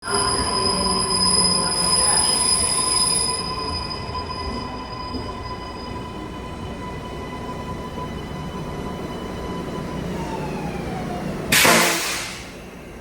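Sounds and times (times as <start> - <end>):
train wheels squealing on rails: 0.0 - 11.0.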